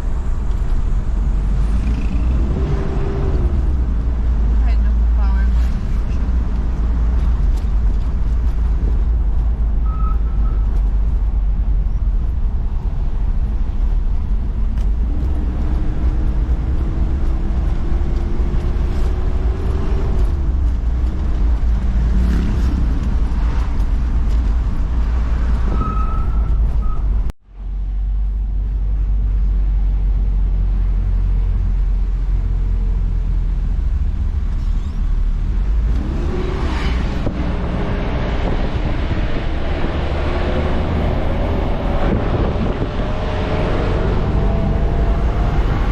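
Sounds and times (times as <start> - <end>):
vehicle engine and road rumble: 0.0 - 45.9.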